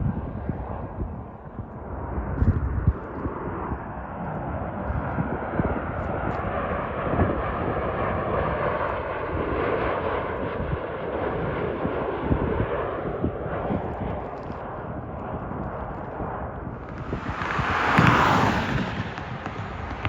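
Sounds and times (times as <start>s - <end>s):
jet airliner flying past: 0.0s - 20.0s.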